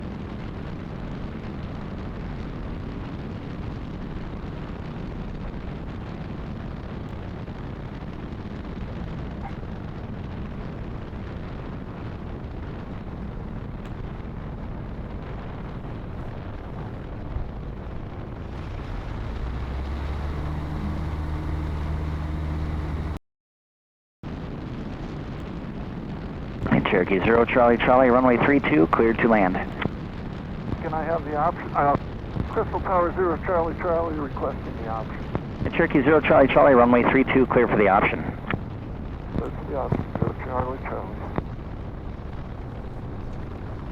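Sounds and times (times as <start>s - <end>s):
airplane engine drone: 0.0s - 23.2s, 26.6s - 43.9s
rushing airflow: 0.0s - 23.2s, 26.6s - 43.9s.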